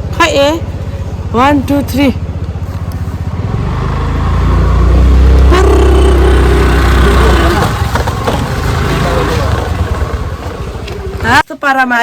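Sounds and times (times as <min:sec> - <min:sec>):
motorcycle engine accelerating: 0:00.0 - 0:11.4.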